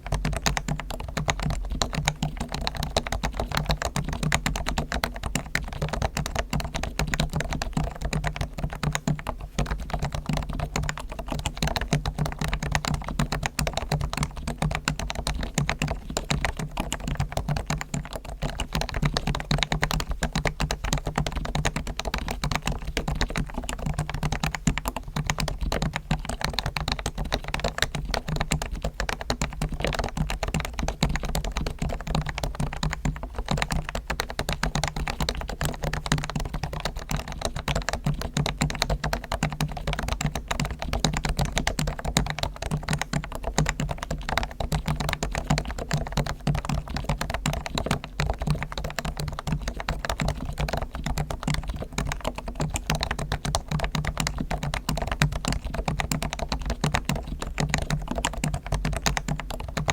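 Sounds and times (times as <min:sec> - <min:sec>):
fast keyboard typing: 0:00.0 - 0:59.9.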